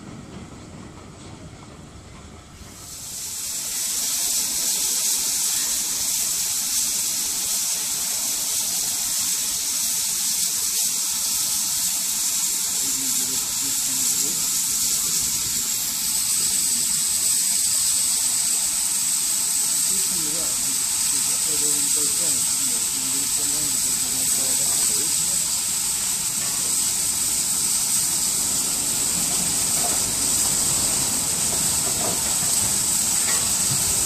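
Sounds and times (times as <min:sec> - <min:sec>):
locomotive steam hissing: 0:00.0 - 0:34.0.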